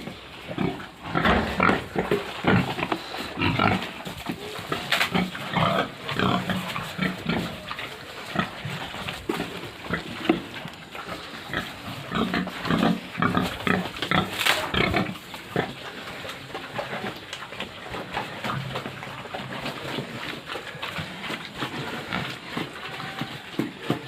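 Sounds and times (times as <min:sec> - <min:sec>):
pigs grunting and squealing: 0:00.0 - 0:24.0.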